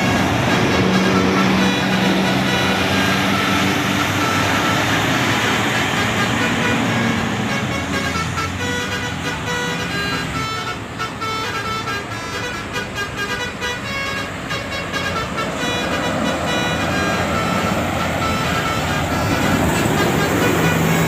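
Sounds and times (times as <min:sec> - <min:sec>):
bus engine: 0:00.0 - 0:21.0
bus horn playing melody: 0:00.0 - 0:21.0
traffic noise: 0:00.0 - 0:21.0.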